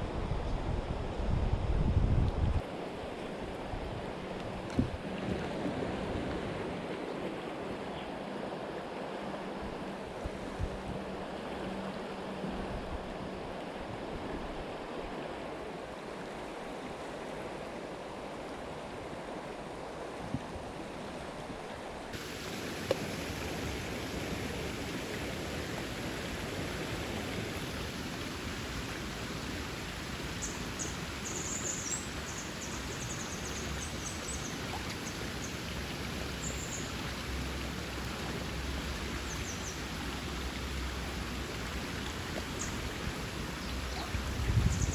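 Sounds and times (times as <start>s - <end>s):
creek water running: 0.0s - 44.9s.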